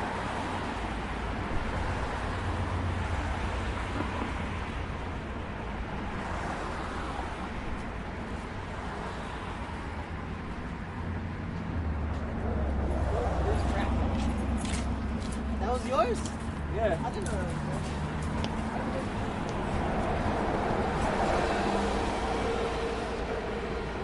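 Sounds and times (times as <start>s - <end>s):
city traffic passing: 0.0s - 24.0s.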